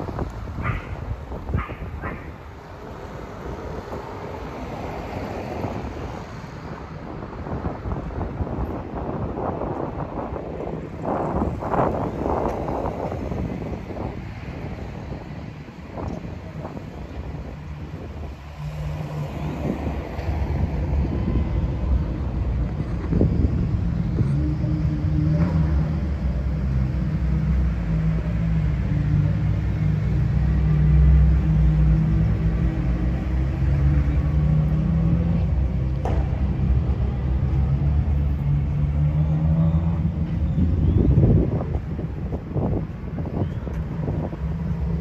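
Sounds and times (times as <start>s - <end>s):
engine rumbling: 0.0s - 45.0s.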